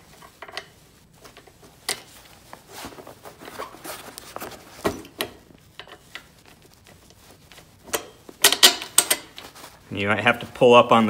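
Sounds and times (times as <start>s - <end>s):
webbing rustling: 0.0s - 11.0s.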